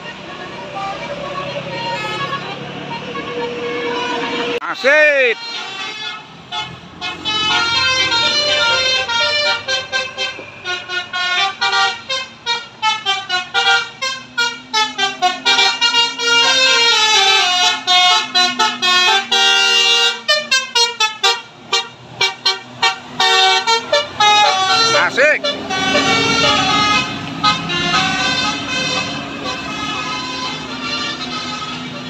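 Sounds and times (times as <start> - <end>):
multi-tone air horn playing a tune: 3.4 - 32.0.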